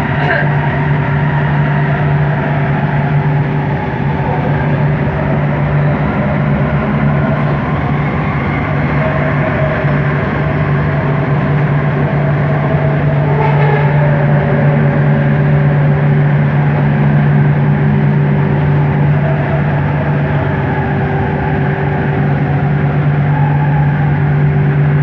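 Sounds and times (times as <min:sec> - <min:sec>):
faint whining tones: 0:00.0 - 0:25.0
metro train motor hum: 0:00.0 - 0:25.0
train rolling noise: 0:00.0 - 0:25.0.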